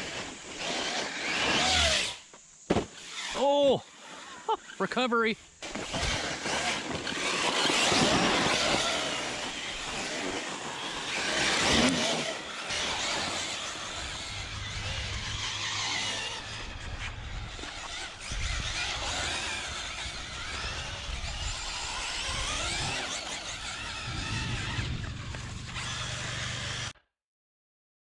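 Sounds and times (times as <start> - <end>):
electric motor whining: 0.0 - 2.4, 5.6 - 27.0.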